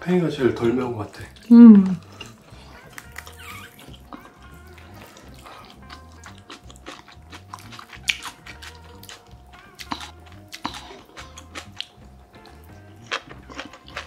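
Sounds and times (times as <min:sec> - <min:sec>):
background music: 0:00.0 - 0:14.0
wet clicks and smacks of chewing: 0:01.1 - 0:14.0.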